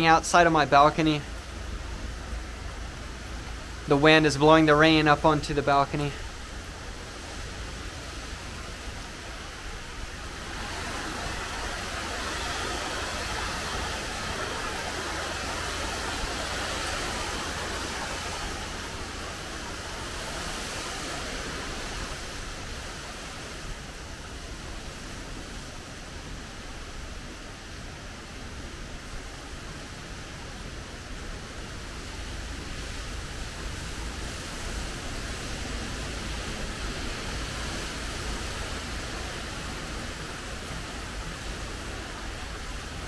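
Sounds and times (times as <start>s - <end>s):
heavy wind-driven rain: 0.0s - 43.0s.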